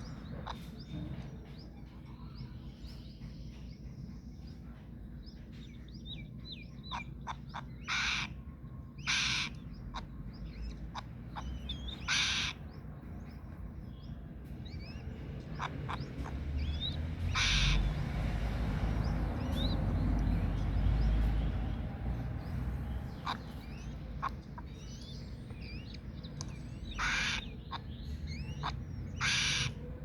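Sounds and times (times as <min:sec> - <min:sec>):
birds chirping and whistling: 0:00.0 - 0:30.0.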